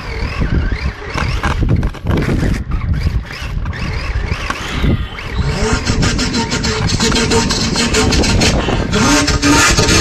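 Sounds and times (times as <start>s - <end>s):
remote-control car rumbling and whining: 0.0s - 10.0s.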